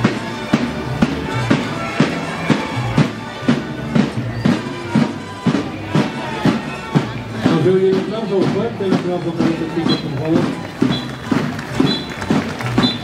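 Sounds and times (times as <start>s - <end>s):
wind instruments playing: 0.0s - 7.5s, 8.4s - 13.0s
marching drum beat: 0.0s - 13.0s.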